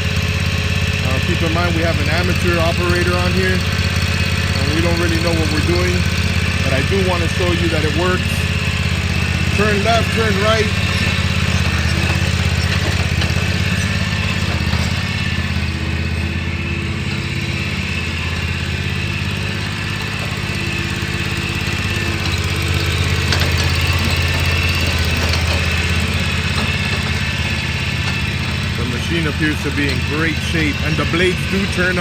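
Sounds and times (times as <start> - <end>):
mower engine running: 0.0 - 32.0.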